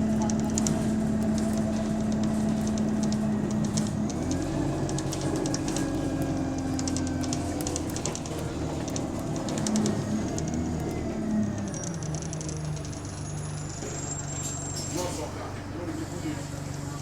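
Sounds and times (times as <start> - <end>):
bus body rattling and clicking: 0.0 - 17.0
bus engine with exhaust leak: 0.0 - 17.0.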